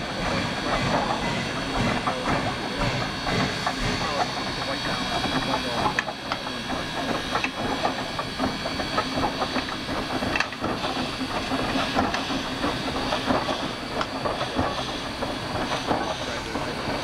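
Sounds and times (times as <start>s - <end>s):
steam hissing: 0.0s - 17.0s
wheels clanking on rails: 0.0s - 17.0s.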